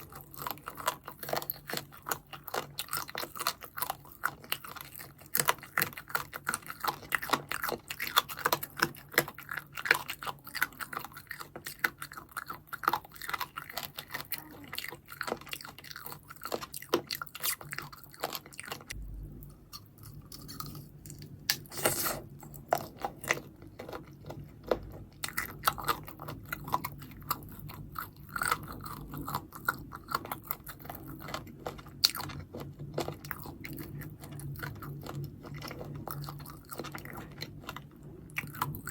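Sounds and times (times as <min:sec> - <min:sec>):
wet chewing: 0:00.0 - 0:38.9.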